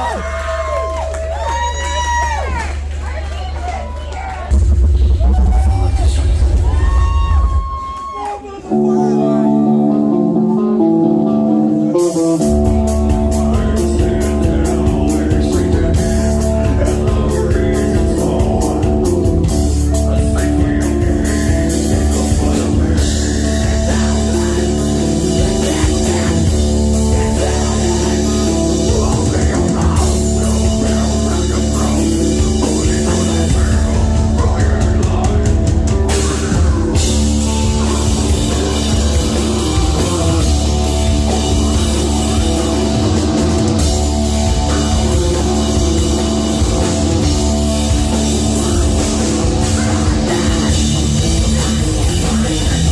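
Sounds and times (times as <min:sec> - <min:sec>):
drums and bass: 0:00.0 - 0:52.9
heavy metal band playing: 0:00.0 - 0:52.9
distorted guitar riff: 0:08.7 - 0:52.9.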